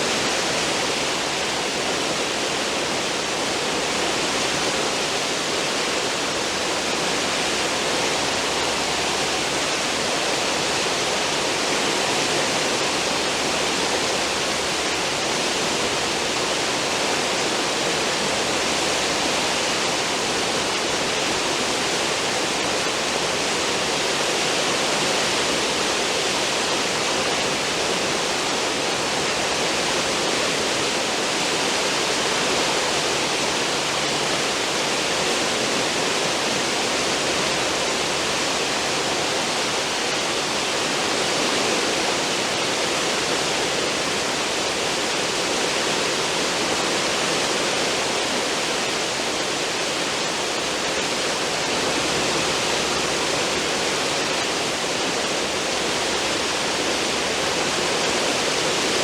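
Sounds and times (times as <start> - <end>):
churning seawater rushing: 0.0 - 59.0.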